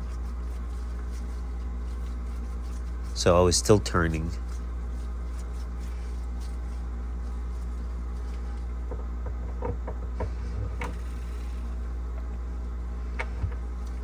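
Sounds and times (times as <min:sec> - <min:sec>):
fan clicking and tapping: 0:00.0 - 0:14.0
low electrical hum: 0:00.0 - 0:14.0.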